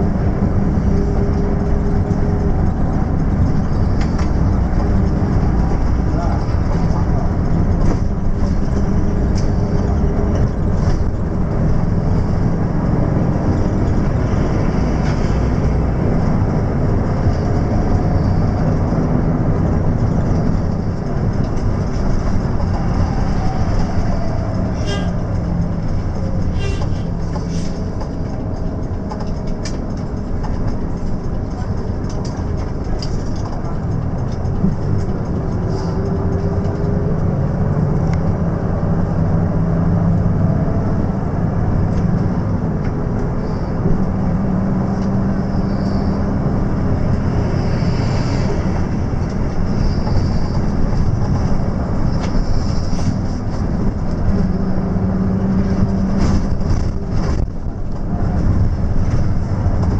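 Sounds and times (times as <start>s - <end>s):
coach engine drone: 0.0s - 59.9s
road noise inside cabin: 0.0s - 59.9s.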